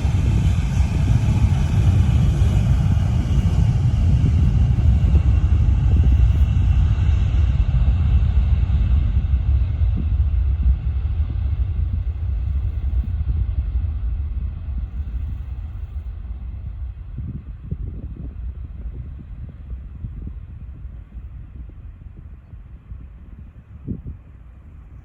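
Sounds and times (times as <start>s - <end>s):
jet airliner engines rumbling: 0.0s - 25.0s.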